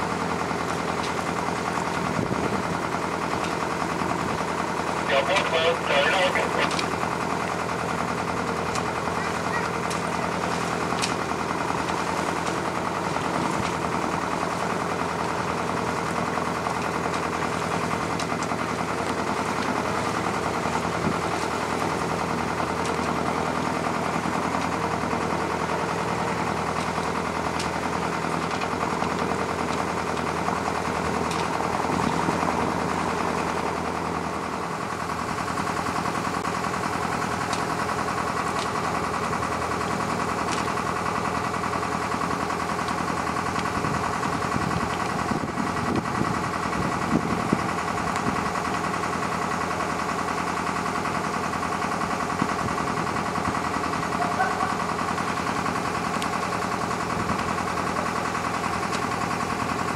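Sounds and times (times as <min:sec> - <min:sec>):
boat engine knocking steadily: 0:00.0 - 0:59.9.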